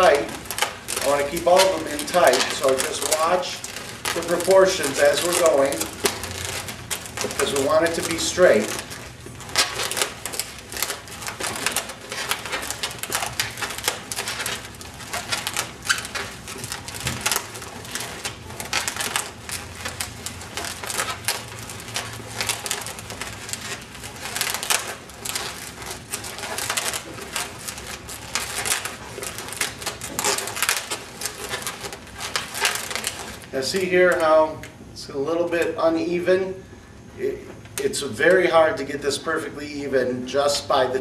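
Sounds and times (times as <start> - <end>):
balloons squeaking and rubbing: 0.0 - 34.5.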